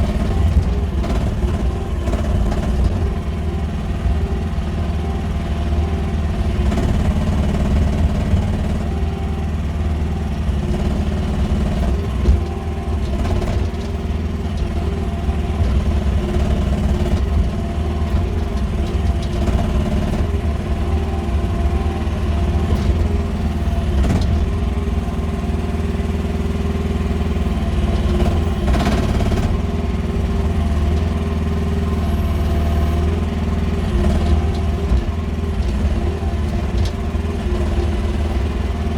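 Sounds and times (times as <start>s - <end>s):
mini excavator engine running: 0.0s - 38.9s.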